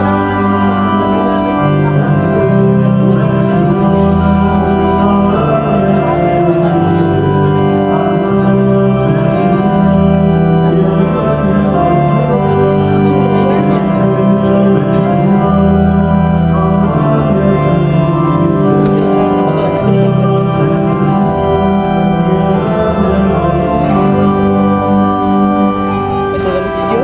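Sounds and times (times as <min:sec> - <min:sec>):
electronic organ chords: 0:00.0 - 0:27.0.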